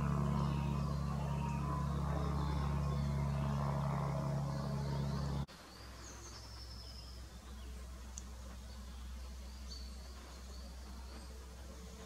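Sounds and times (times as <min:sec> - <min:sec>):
faint high bird calls: 0:00.0 - 0:12.0
steady low hum: 0:00.0 - 0:12.0.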